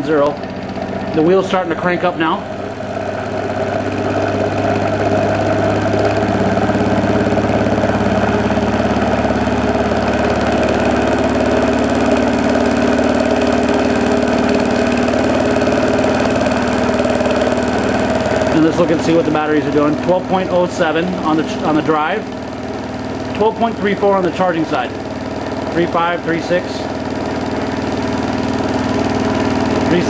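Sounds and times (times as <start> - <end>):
pulse motor humming: 0.0 - 30.0.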